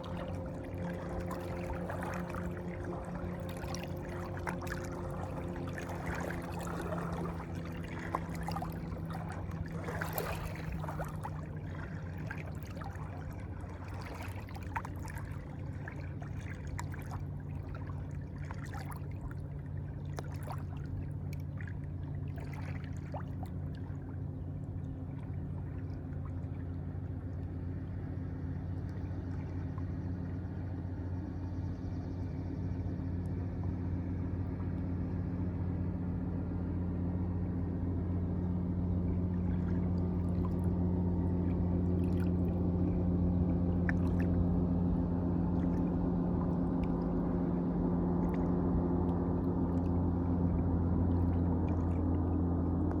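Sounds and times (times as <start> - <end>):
water trickling and splashing: 0.0 - 30.7, 38.9 - 53.0
low motor hum: 0.0 - 53.0.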